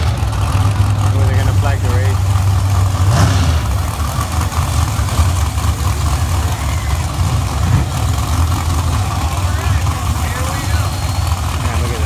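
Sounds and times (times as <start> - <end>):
race car engines idling: 0.0 - 12.0.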